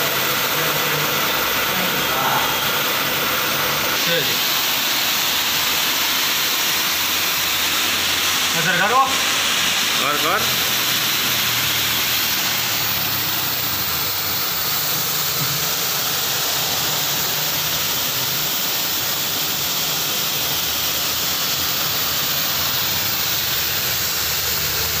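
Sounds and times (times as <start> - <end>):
high-pressure water jet hissing: 0.0 - 25.0
pump motor hum: 0.0 - 25.0.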